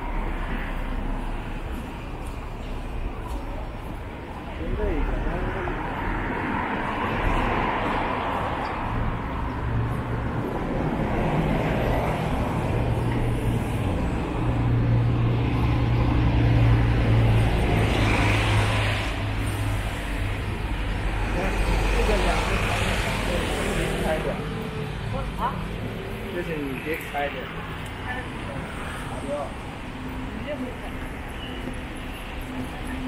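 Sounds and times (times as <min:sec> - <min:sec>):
city street traffic: 0:00.0 - 0:33.0.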